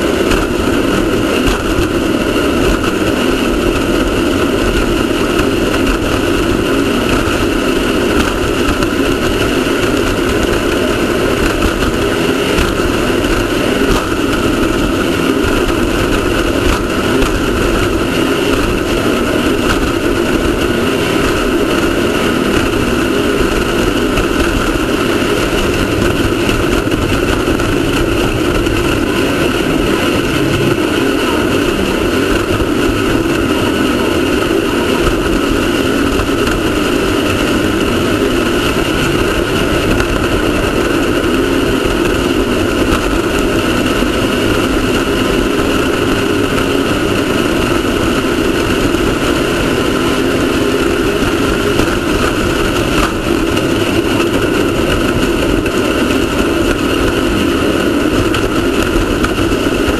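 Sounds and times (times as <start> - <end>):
loud rushing noise: 0.0 - 59.9
race car engine running: 0.0 - 59.9.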